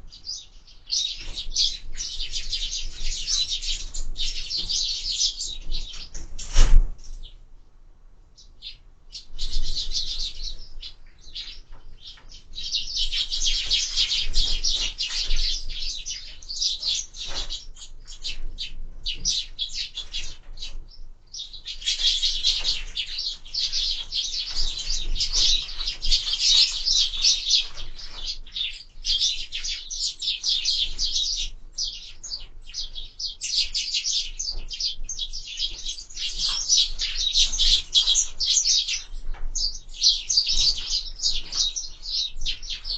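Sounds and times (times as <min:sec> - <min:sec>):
sparrows chirping: 0:00.0 - 0:07.5, 0:08.3 - 0:42.9.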